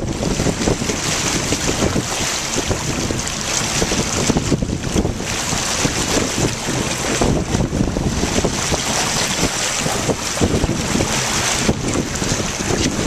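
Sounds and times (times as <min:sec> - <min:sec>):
water splashing against boat: 0:00.0 - 0:13.0
wind buffeting microphone: 0:00.0 - 0:13.0.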